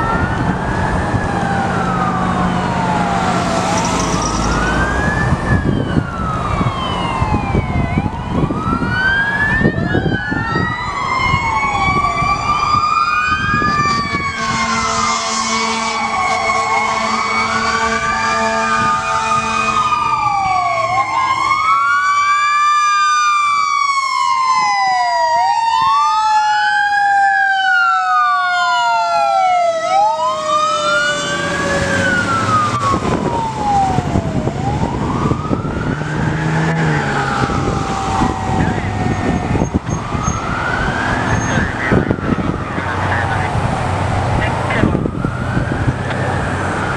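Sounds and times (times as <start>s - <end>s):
heavy vehicle rumble: 0.0s - 22.4s, 29.2s - 46.9s
slow siren climbing and sliding: 0.0s - 46.9s
wailing siren: 0.0s - 46.9s.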